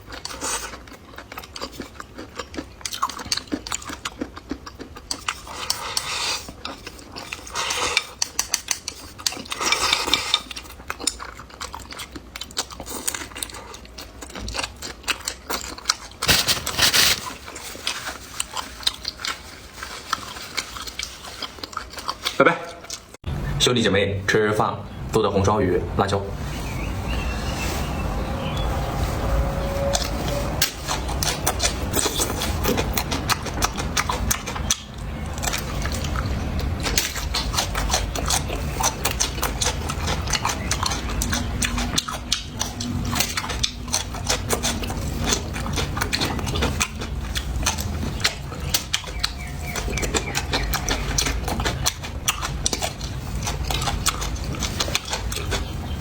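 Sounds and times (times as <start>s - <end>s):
chewing and mouth noises: 0.0s - 23.2s, 27.9s - 56.0s.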